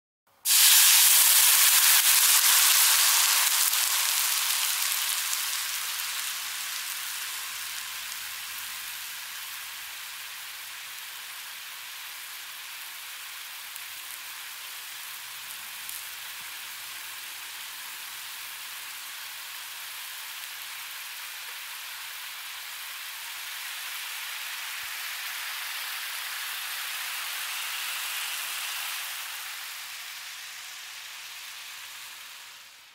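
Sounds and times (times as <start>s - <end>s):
water sizzling on a hot pan: 0.3s - 32.9s.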